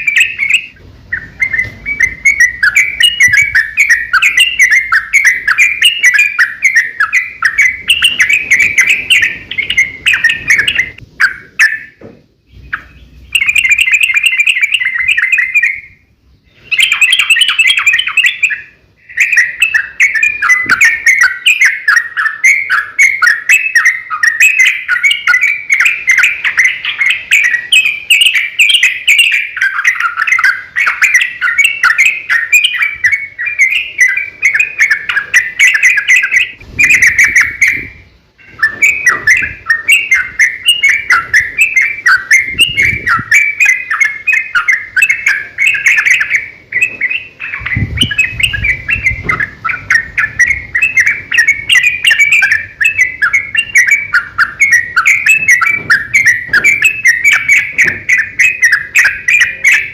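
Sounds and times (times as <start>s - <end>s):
bulbul chattering song: 0.0s - 59.9s.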